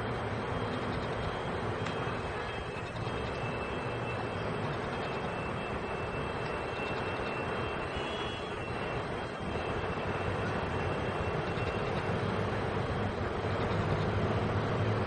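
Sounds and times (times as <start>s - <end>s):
faint high whine: 0.0s - 15.0s
train rumble: 0.0s - 15.0s.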